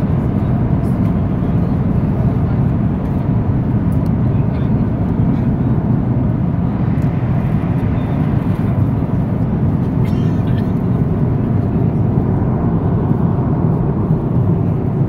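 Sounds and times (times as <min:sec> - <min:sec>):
jet engine roar in airliner cabin: 0:00.0 - 0:15.0.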